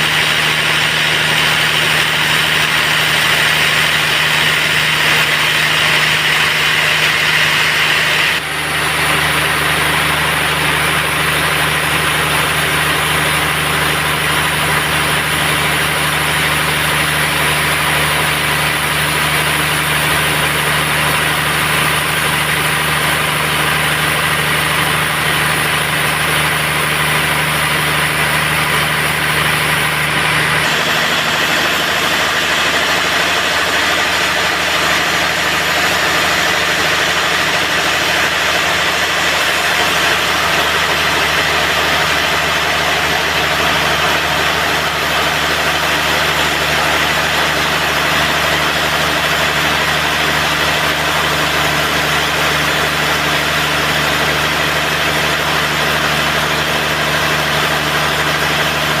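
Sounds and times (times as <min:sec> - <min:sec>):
sawmill machine drone: 0:00.0 - 0:59.0.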